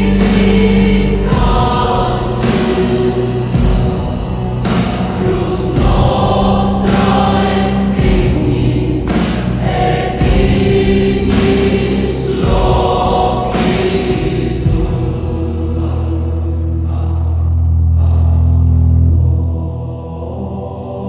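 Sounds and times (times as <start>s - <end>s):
choir singing held chords: 0.0s - 21.0s
sustained low bass: 0.0s - 21.0s.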